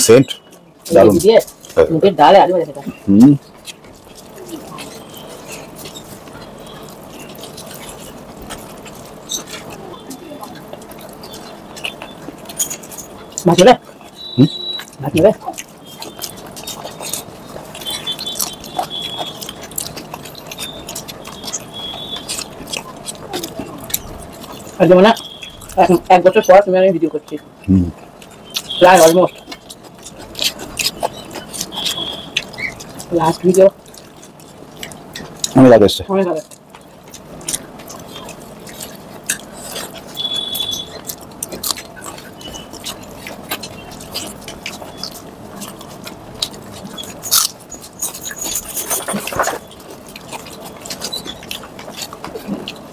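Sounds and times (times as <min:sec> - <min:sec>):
wet chewing: 0:00.0 - 0:52.9
lip smacks: 0:03.4 - 0:25.8, 0:27.3 - 0:35.6, 0:36.4 - 0:52.9
fingers clicking on food: 0:03.5 - 0:26.5, 0:27.3 - 0:52.9.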